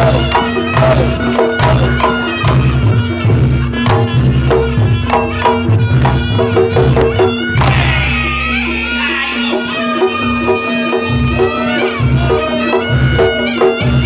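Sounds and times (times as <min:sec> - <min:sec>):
fast hand drum rhythm: 0:00.0 - 0:14.0
nasal reedy shawm melody: 0:00.0 - 0:14.0.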